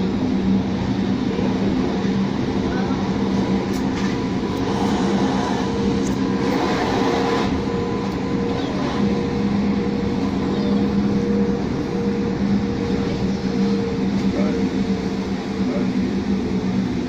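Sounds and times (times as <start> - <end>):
train motors humming: 0.0 - 17.0
train wheels rumbling on track: 0.0 - 17.0.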